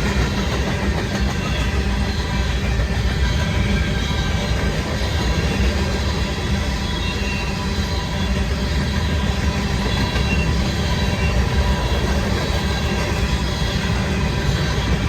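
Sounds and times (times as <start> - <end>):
steel wheels rumbling on rail: 0.0 - 15.0
high wheel squeal: 0.2 - 15.0.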